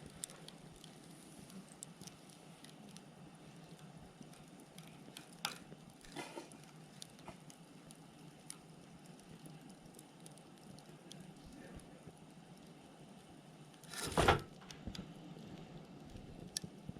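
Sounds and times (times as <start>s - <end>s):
firewood crackles and pops: 0.0s - 16.9s
wood fire hissing: 0.0s - 16.9s.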